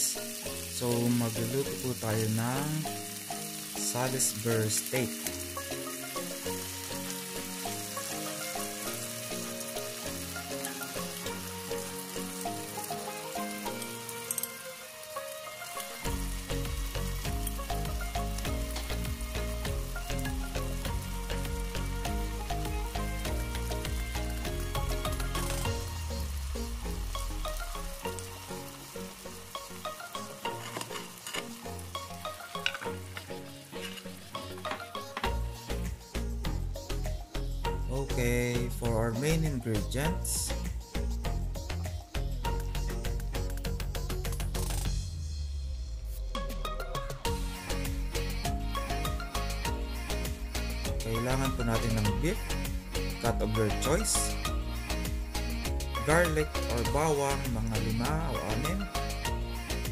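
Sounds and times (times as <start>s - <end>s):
gravy sizzling on hot plate: 0.0s - 37.1s, 47.0s - 59.9s
background music: 0.0s - 59.9s.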